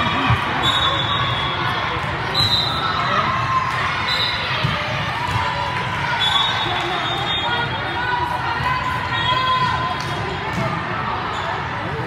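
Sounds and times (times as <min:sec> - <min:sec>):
voices in echoing hall: 0:00.0 - 0:12.0.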